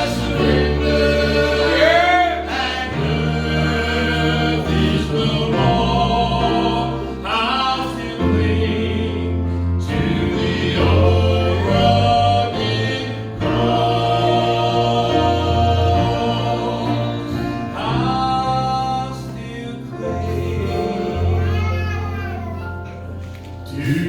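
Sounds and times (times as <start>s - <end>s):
vocal group singing gospel: 0.0s - 21.8s, 23.6s - 24.0s.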